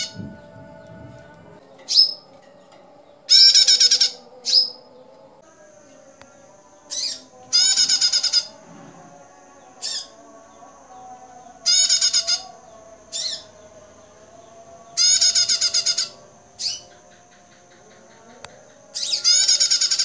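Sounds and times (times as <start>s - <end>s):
songbird trills: 0.0s - 5.2s, 6.2s - 8.6s, 11.4s - 20.0s.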